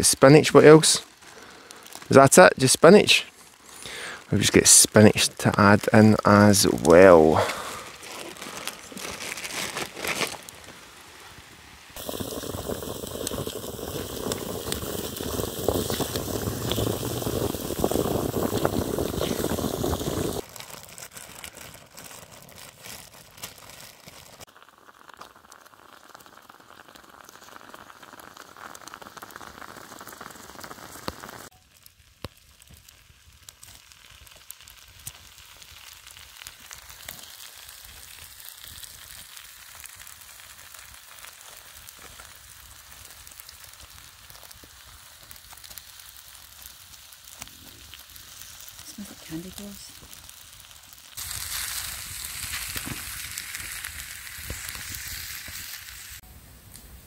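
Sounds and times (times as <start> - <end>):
food sizzling in a frying pan: 6.5 - 20.7, 24.3 - 56.3.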